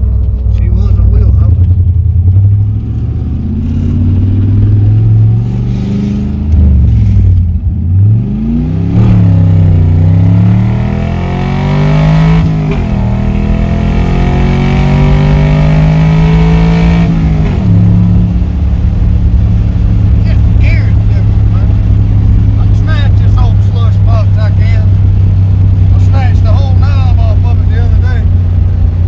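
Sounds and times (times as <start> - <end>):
car engine accelerating through gears: 0.0 - 29.0.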